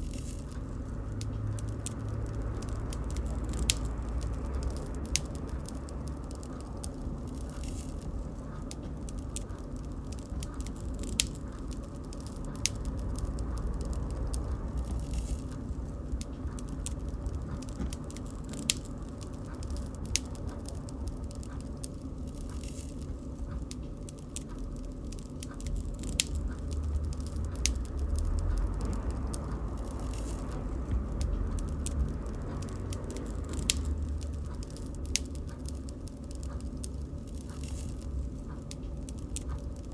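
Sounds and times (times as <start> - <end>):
bonfire crackling and popping: 0.0 - 39.9
low fire rumble: 0.0 - 39.9.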